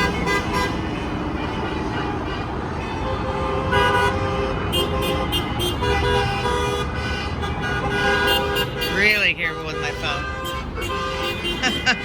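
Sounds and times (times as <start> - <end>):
car horns honking: 0.0 - 12.0
traffic rumble: 0.0 - 12.0.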